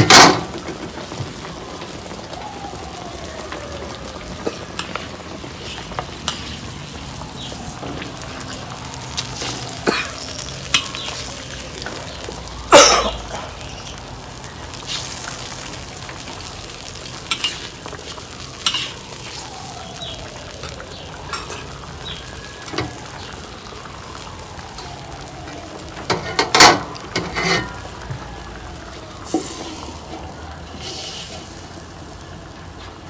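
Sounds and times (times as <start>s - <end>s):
liquid sizzling and bubbling: 0.0s - 33.0s.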